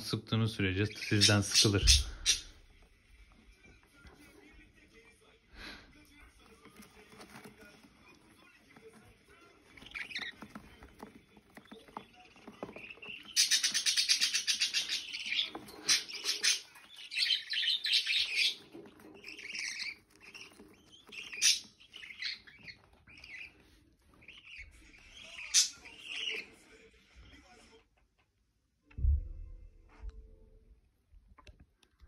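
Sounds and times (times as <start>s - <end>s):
budgerigars chirping and chattering: 0.0s - 27.7s.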